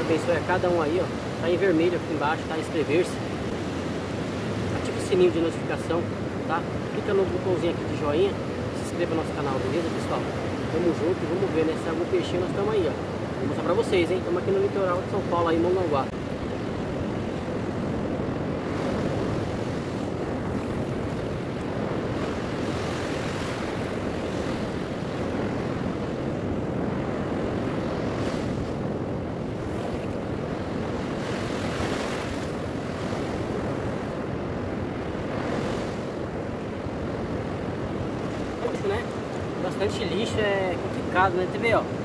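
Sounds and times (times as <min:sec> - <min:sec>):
ocean surf washing onto beach: 0:00.0 - 0:42.0
wind buffeting microphone: 0:00.0 - 0:42.0.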